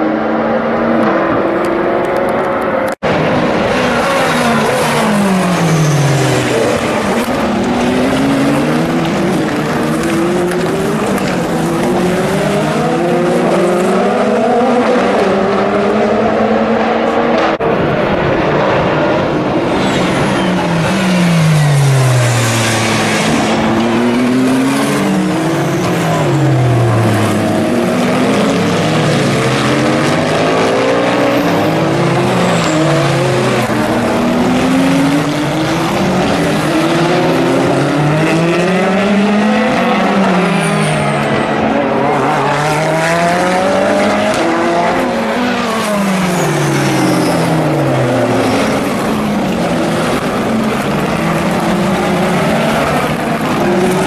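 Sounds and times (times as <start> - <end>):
race car engines shifting gears: 0.0 - 54.0.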